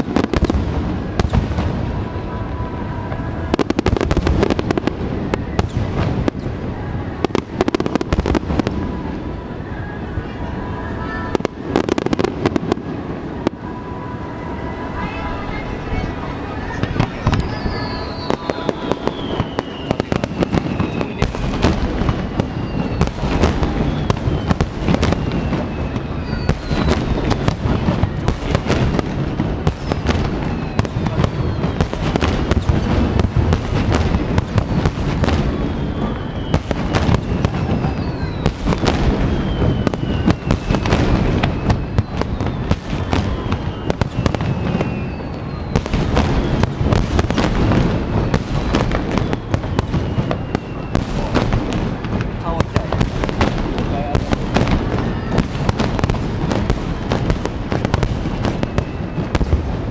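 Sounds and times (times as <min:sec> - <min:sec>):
fireworks booms and bursts: 0:00.0 - 0:59.9
fireworks whistles: 0:00.0 - 0:59.9.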